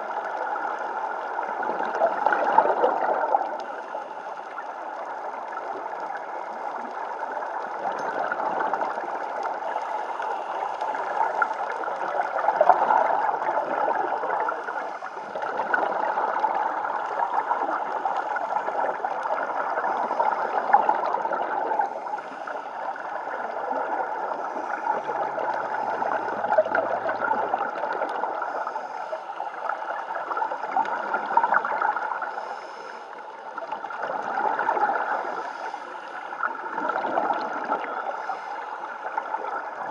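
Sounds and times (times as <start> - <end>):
underwater bubbling: 0.0 - 39.9.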